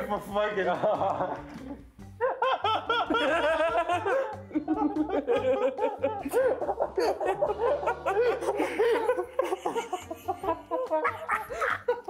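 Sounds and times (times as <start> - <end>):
young men laughing: 0.4 - 12.0.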